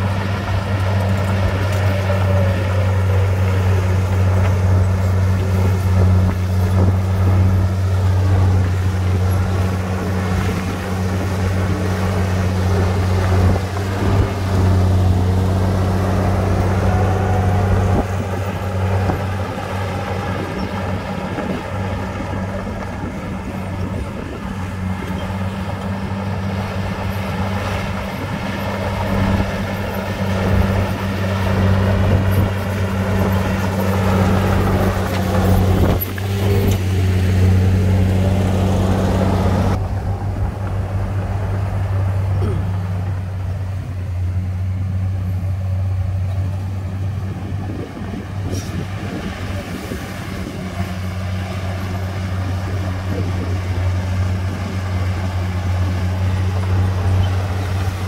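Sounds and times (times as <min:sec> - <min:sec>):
bulldozer diesel engine humming: 0:00.0 - 0:58.0.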